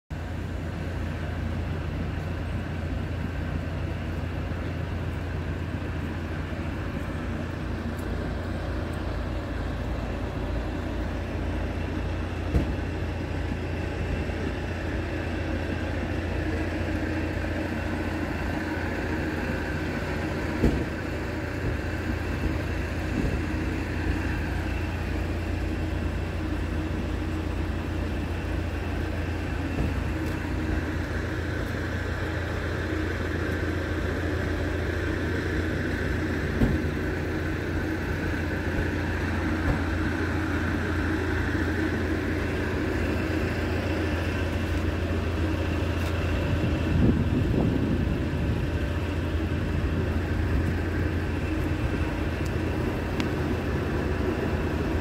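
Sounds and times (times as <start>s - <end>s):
diesel truck engine idling: 0.1s - 55.0s.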